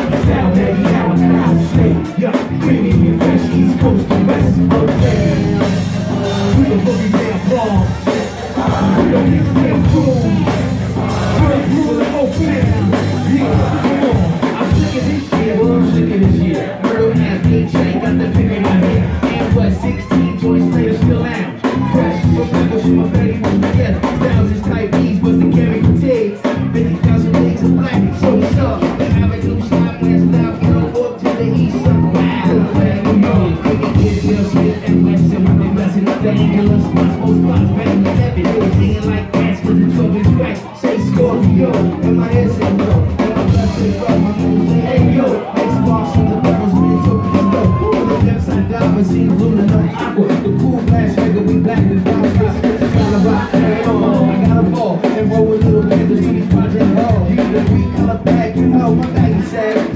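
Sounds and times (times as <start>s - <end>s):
drum kit beat: 0.0s - 59.9s
live hip-hop band playing: 0.0s - 59.9s
vocals into microphones: 0.0s - 59.9s.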